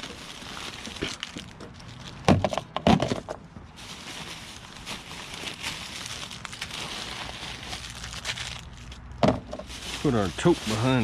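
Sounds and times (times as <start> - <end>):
objects being handled: 0.0 - 11.0
rustling: 0.0 - 11.0.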